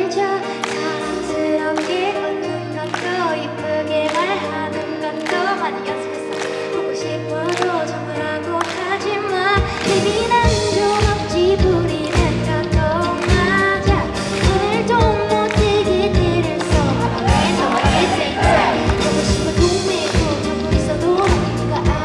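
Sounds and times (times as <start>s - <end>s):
pop band playing: 0.0s - 22.0s
woman singing into a microphone: 0.0s - 22.0s.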